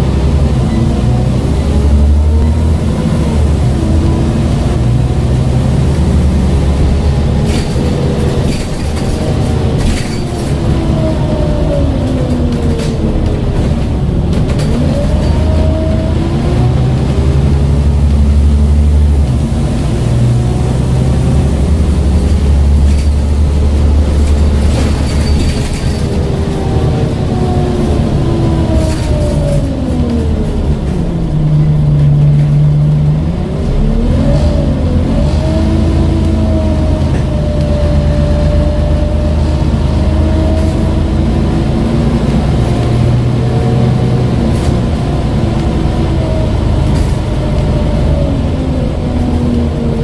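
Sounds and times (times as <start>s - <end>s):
bus body rattling: 0.0s - 50.0s
bus engine drone: 0.0s - 50.0s.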